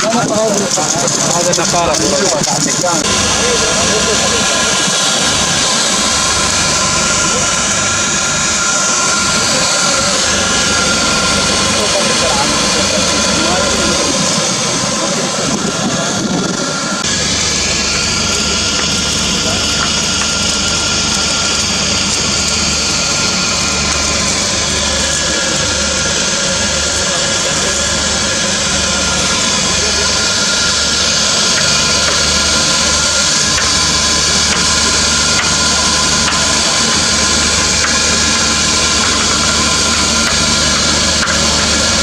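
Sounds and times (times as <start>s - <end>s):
welding machinery hum and hiss: 0.0s - 42.0s.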